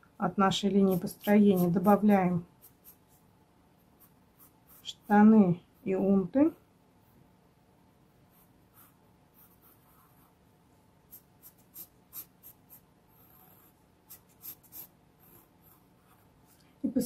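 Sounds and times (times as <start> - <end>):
pencil scratching on paper: 0.6 - 6.0, 8.2 - 16.6.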